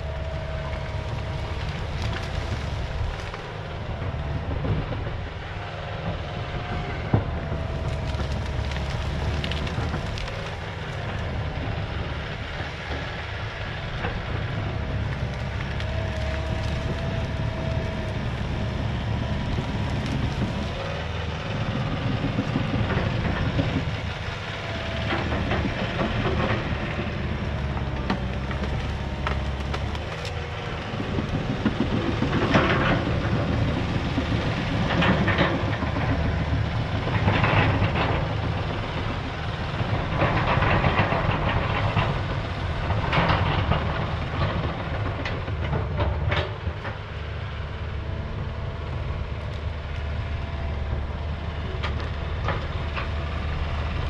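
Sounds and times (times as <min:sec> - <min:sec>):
clanking rattling tracks: 0:00.0 - 0:54.0
dozer engine running: 0:00.0 - 0:54.0.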